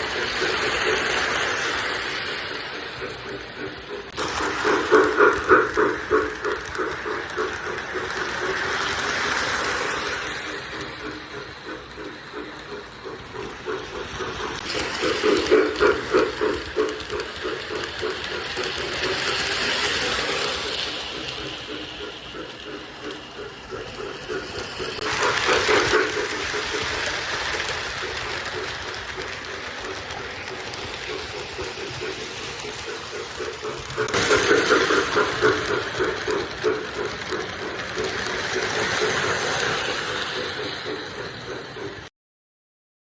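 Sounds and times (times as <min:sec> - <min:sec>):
model train clicking on track: 0:00.0 - 0:42.1.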